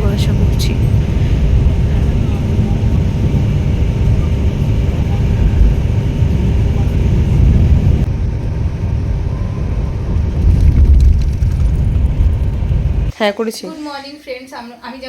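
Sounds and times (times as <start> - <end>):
coach engine and road rumble: 0.0 - 13.2.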